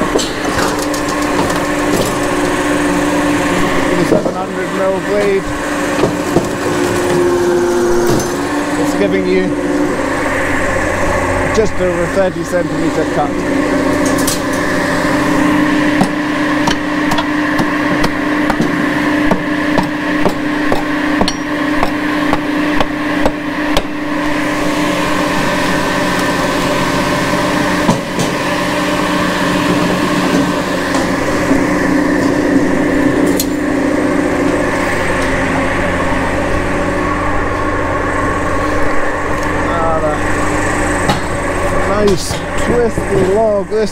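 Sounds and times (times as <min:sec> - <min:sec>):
firewood processor humming: 0:00.0 - 0:43.9.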